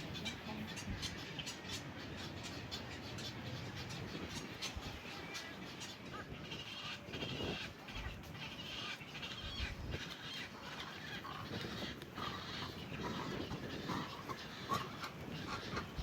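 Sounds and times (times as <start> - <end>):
birds squawking and clicking: 0.0 - 16.0.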